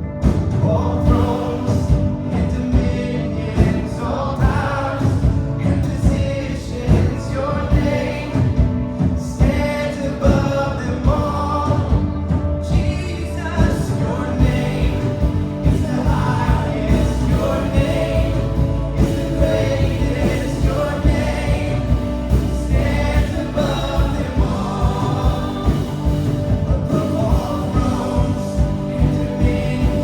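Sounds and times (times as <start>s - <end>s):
group of singers: 0.0s - 30.0s
worship band playing: 0.0s - 30.0s.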